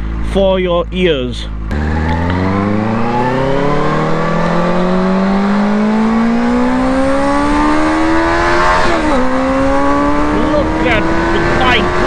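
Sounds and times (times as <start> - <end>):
motorcycle engine accelerating: 1.3 - 12.0.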